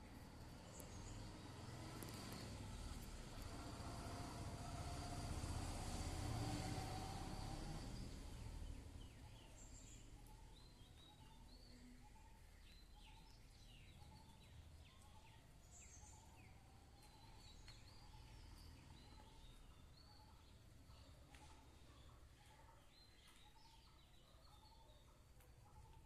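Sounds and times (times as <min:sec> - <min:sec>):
small birds chirping: 0:00.0 - 0:04.2, 0:06.7 - 0:26.0.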